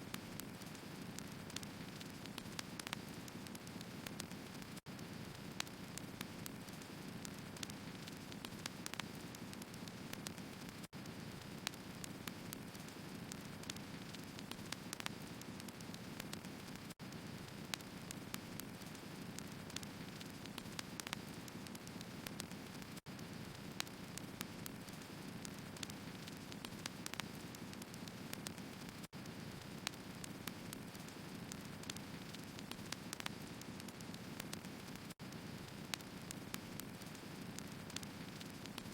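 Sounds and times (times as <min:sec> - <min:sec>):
firewood burning and crackling: 0:00.1 - 0:38.9.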